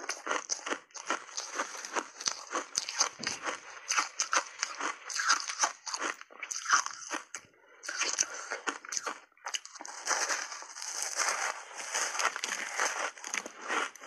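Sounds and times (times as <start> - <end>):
crunching ice: 0.0 - 14.0.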